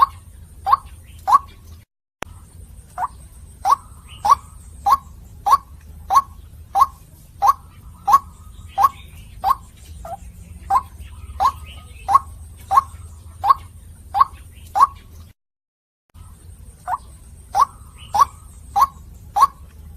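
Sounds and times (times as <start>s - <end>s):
low steady hum: 0.0s - 15.3s, 16.2s - 19.9s.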